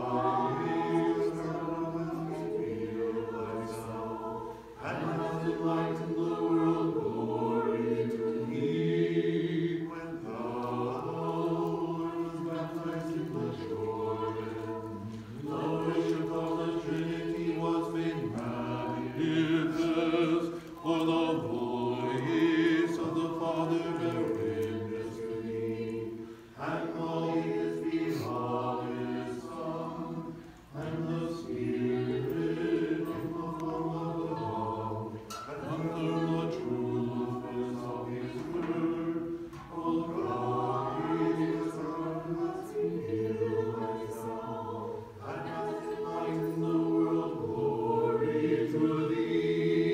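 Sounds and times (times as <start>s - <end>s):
choir singing unaccompanied chant: 0.0s - 49.9s.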